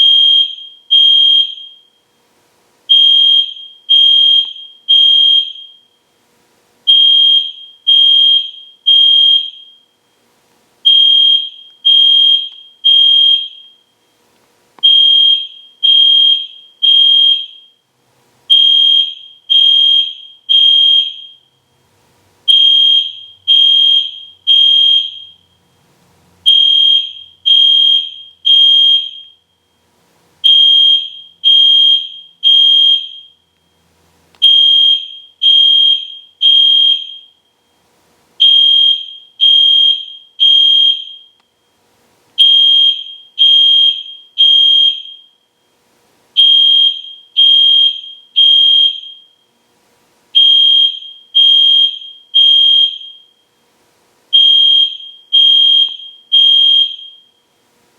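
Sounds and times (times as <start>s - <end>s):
fire alarm horn blasts: 0.0s - 2.0s, 2.9s - 6.0s, 6.9s - 10.0s, 10.8s - 14.0s, 14.8s - 17.8s, 18.5s - 21.5s, 22.5s - 25.7s, 26.4s - 29.8s, 30.4s - 33.4s, 34.4s - 37.7s, 38.4s - 41.8s, 42.4s - 45.7s, 46.4s - 49.5s, 50.4s - 53.6s, 54.3s - 57.5s.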